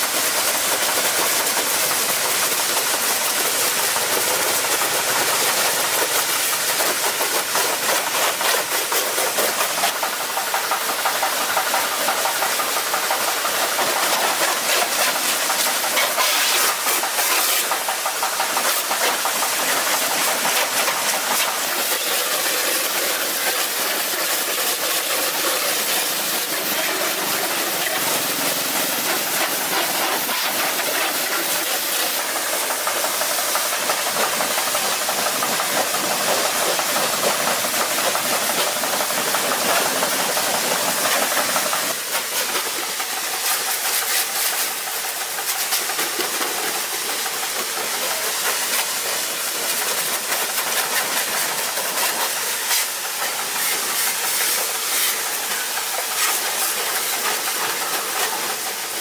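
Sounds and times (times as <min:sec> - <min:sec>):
strong even hiss: 0:00.0 - 0:59.0.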